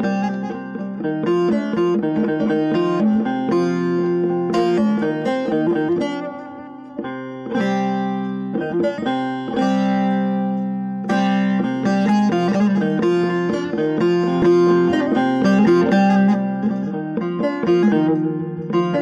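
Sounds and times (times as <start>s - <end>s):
plucked string instrument: 0.0s - 19.0s.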